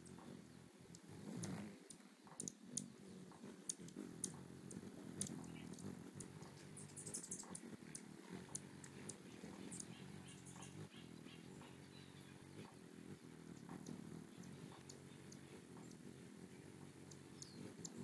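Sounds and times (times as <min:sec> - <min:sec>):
high bird twittering: 0:00.0 - 0:18.0
hummingbird wings humming: 0:00.0 - 0:18.0.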